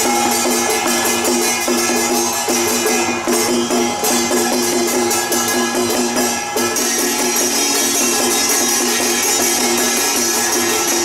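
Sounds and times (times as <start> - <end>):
ringing gongs and cymbals: 0.0 - 11.0.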